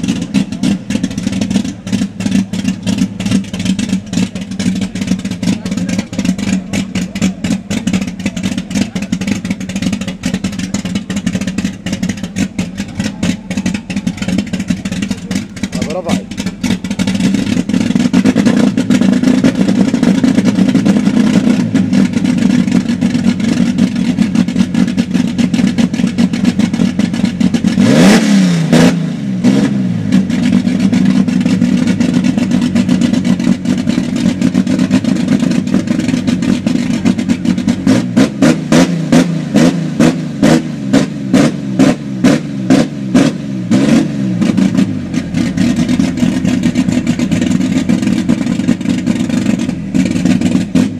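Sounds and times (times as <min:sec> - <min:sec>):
car engine revving through exhaust: 0:00.0 - 0:50.9.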